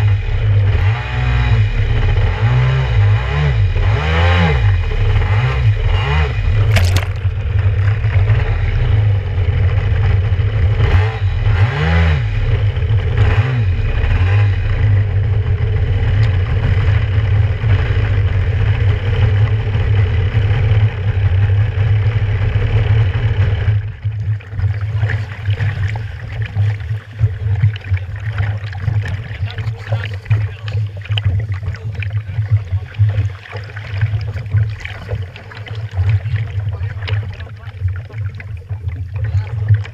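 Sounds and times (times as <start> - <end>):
jet ski engine running: 0.0 - 39.9
water splashing against hull: 4.2 - 10.8, 12.4 - 39.9
water rushing past hull: 4.2 - 11.5, 12.4 - 39.9.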